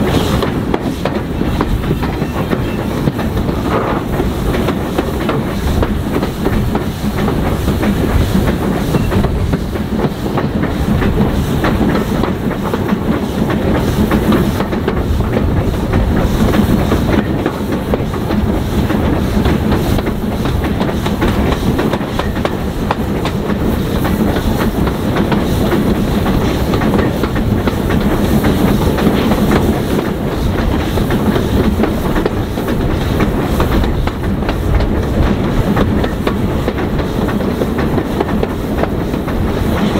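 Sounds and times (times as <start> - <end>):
train rumbling on track: 0.0 - 39.9
wheels clacking over rail joints: 0.0 - 39.9.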